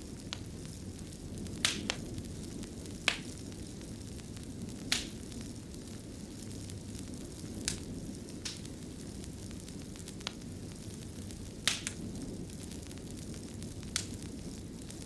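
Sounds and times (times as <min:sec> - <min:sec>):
fire crackles and pops: 0:00.0 - 0:15.0
fire rumbling: 0:00.0 - 0:15.0.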